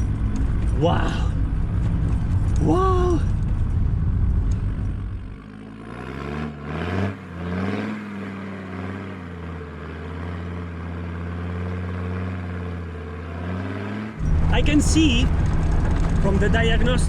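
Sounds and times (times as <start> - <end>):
diesel engine pulling under load: 0.0 - 17.0.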